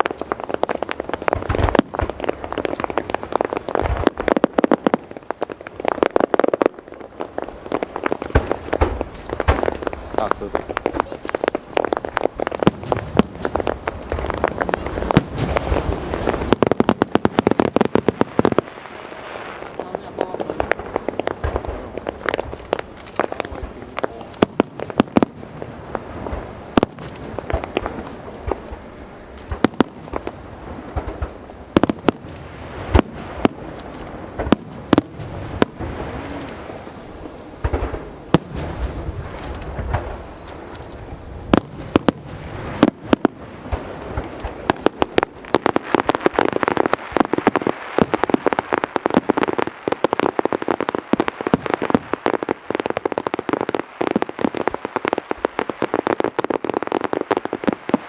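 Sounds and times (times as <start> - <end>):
firework bangs: 0.0 - 58.0
rapid firework crackling: 0.0 - 58.0.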